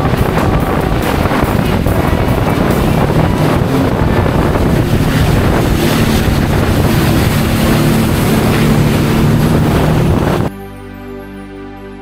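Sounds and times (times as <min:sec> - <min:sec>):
jet ski engine drone: 0:00.0 - 0:10.5
rushing water spray: 0:00.0 - 0:10.5
wind buffeting microphone: 0:00.0 - 0:10.5.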